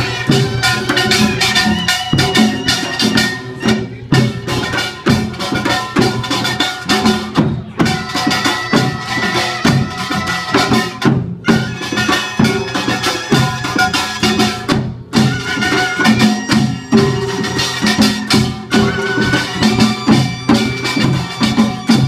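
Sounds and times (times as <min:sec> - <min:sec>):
drum strokes: 0:00.0 - 0:22.0.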